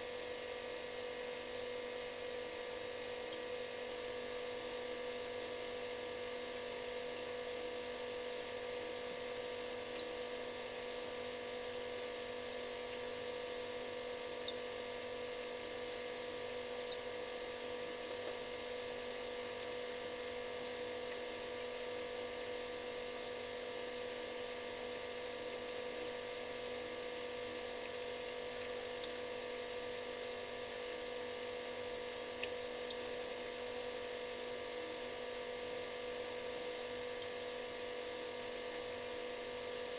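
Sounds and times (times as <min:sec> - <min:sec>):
refrigerator hum: 0:00.0 - 0:39.9.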